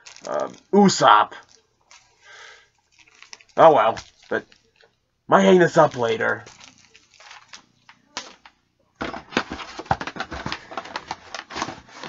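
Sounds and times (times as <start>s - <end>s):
packaging rustling and clicking: 0.0s - 0.7s, 1.4s - 5.0s, 5.8s - 12.0s.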